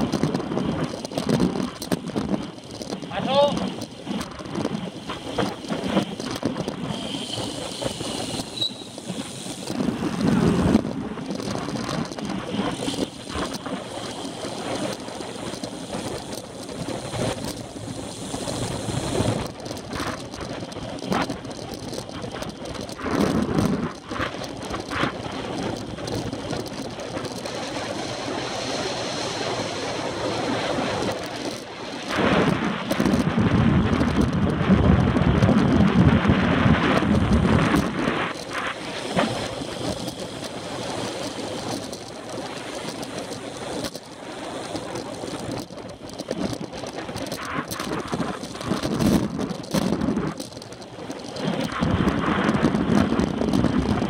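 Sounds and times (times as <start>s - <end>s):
tyre and road noise: 0.0s - 54.0s
wind rushing over microphone: 0.0s - 54.0s.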